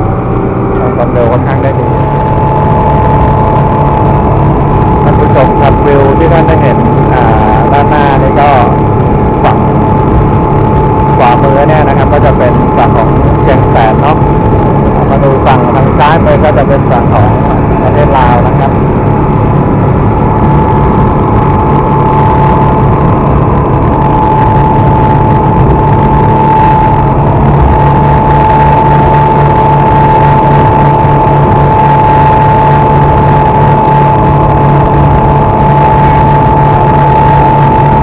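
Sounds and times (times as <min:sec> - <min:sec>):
outboard motors whining: 0:00.0 - 0:38.0
wind: 0:00.0 - 0:38.0.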